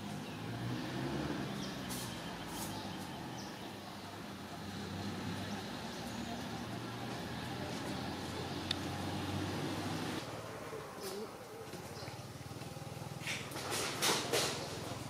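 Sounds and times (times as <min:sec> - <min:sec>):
low engine hum: 0:00.0 - 0:13.5.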